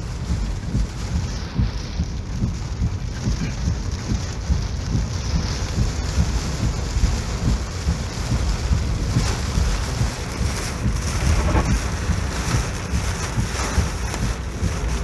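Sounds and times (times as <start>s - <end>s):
heavy rain hissing: 0.0s - 15.0s
wind buffeting microphone: 0.0s - 15.0s.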